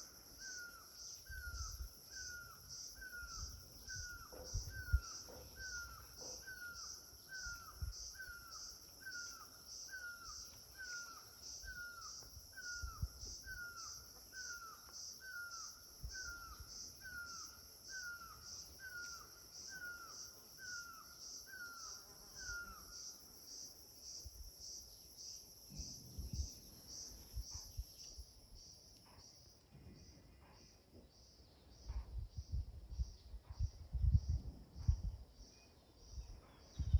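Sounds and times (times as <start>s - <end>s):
insects chirring: 0.0s - 36.9s.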